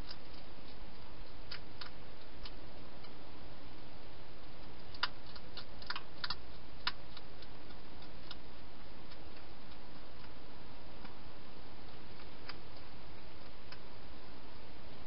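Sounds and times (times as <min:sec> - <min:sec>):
hedgehog chewing clicks: 0:00.0 - 0:03.2, 0:04.4 - 0:11.2, 0:11.8 - 0:13.9
steady hiss: 0:00.0 - 0:15.0.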